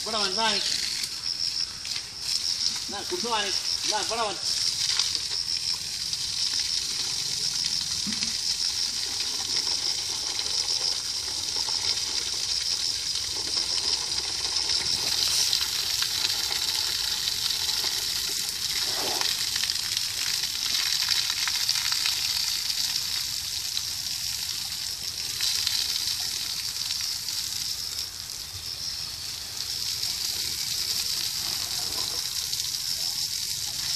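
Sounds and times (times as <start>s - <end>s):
water spray hissing and splattering: 0.0s - 33.9s.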